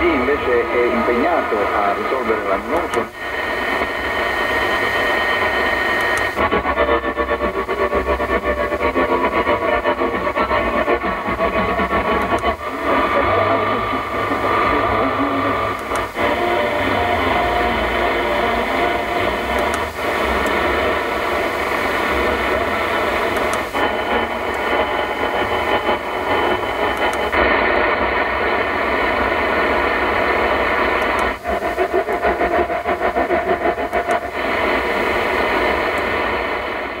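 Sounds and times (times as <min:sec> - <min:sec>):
radio static and hiss: 0:00.0 - 0:37.0
pulsing buzz: 0:03.1 - 0:36.1.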